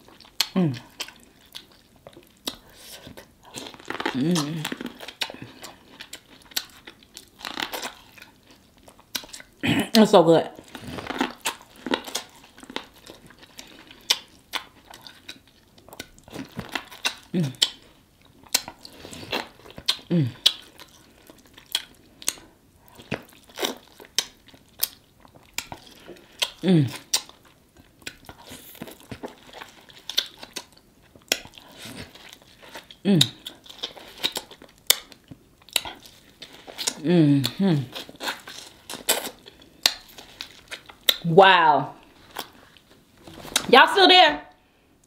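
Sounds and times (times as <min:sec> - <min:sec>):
wet chewing and lip clicks: 0:00.0 - 0:09.6, 0:10.6 - 0:41.3.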